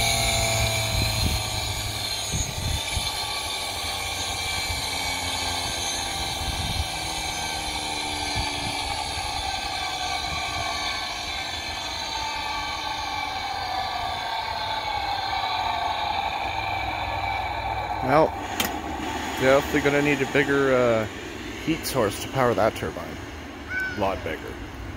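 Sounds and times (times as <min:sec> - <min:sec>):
hiss of venting steam: 0:00.0 - 0:23.6
steam turbine whine: 0:00.0 - 0:24.9.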